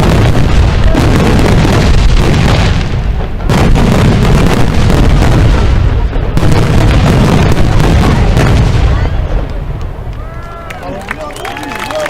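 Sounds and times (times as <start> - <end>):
fireworks booming and popping: 0.0 - 11.1.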